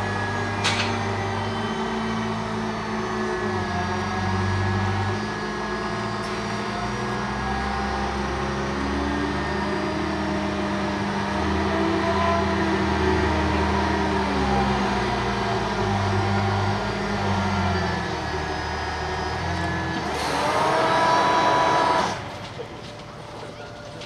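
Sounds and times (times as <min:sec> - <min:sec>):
diesel locomotive engine humming: 0:00.0 - 0:24.0.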